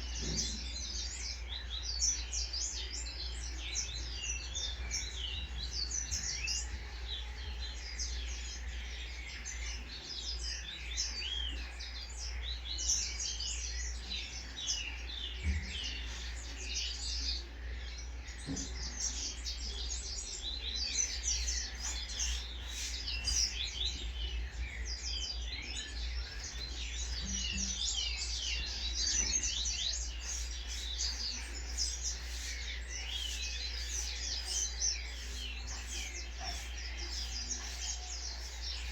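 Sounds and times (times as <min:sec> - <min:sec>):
songbirds chirping and whistling: 0:00.0 - 0:38.9.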